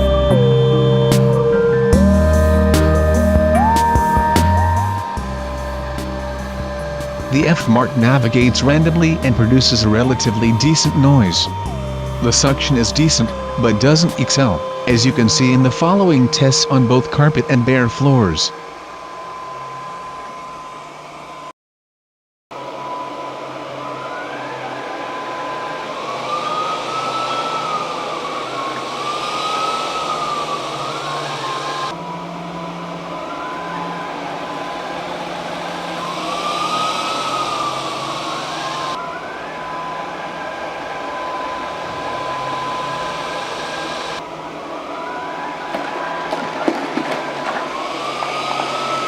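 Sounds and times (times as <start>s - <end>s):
robot vacuum motor whine: 0.0s - 21.5s, 22.6s - 49.0s.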